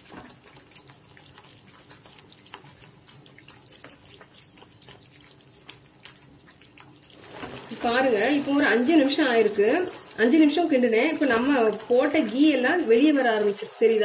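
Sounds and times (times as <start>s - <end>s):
thick halwa squelching and popping: 0.0s - 13.4s.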